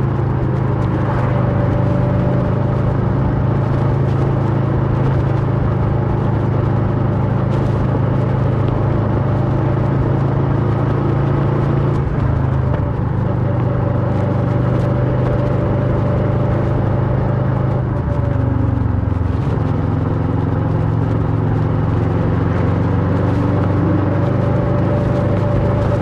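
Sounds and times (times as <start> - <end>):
motorcycle engine while riding: 0.0 - 26.0.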